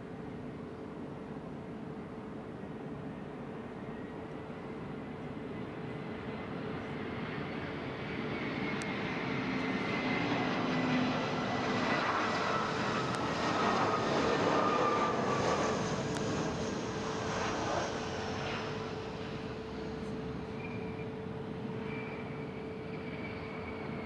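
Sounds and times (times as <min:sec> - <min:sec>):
jet airliner engine noise: 0:00.0 - 0:24.0.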